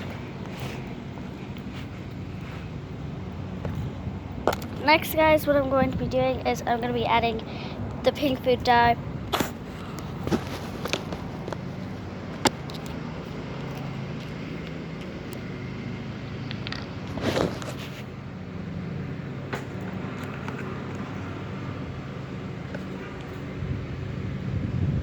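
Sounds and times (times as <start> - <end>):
motor engine running: 0.0 - 25.0.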